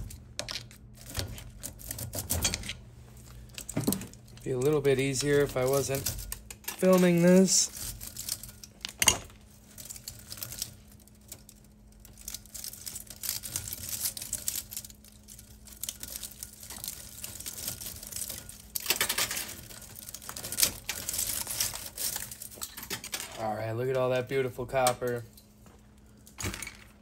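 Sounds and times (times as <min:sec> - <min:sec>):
copper wires scraping and rustling: 0:00.0 - 0:26.4.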